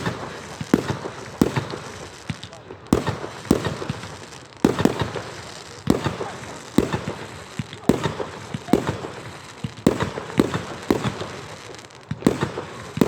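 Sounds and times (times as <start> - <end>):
fireworks bangs with crackle: 0.0 - 13.0.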